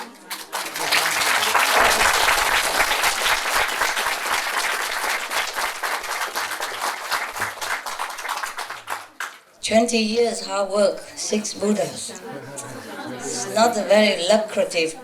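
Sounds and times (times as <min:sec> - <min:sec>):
audience applauding: 0:00.0 - 0:09.6, 0:11.0 - 0:15.0.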